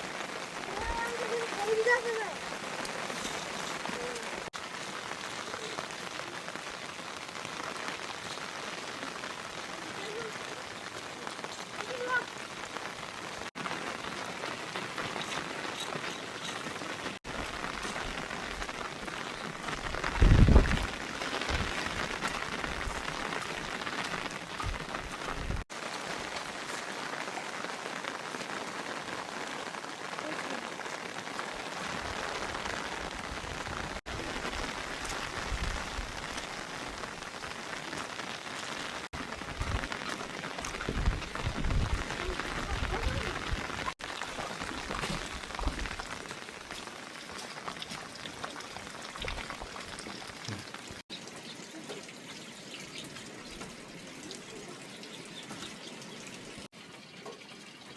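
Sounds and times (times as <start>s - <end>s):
heavy rain falling: 0.0s - 52.2s.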